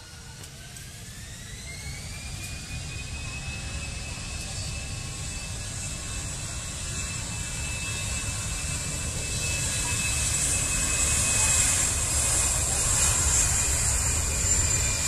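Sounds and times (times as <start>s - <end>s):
jet engine whine and rumble: 0.0s - 15.0s.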